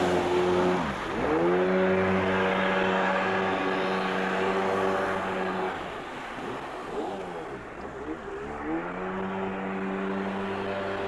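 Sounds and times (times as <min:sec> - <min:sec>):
jet ski engine whine: 0:00.0 - 0:11.0.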